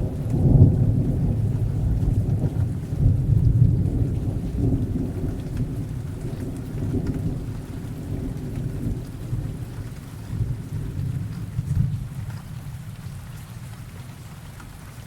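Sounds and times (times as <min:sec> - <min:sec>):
thunder rumbling: 0:00.0 - 0:13.2
raindrop ticks: 0:00.0 - 0:15.0
steady rain: 0:00.0 - 0:15.0.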